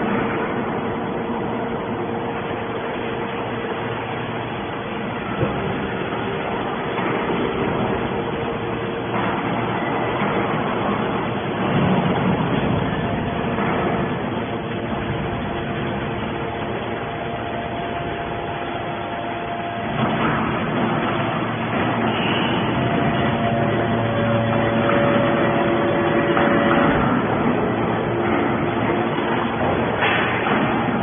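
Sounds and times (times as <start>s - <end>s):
hydraulic baler whining: 1.1s - 31.0s.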